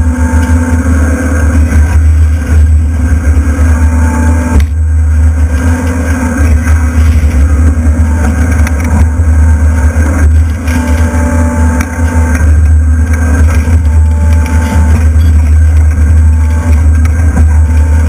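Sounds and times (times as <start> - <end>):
excavator diesel engine running: 0.0 - 18.0
machine whine: 0.0 - 18.0.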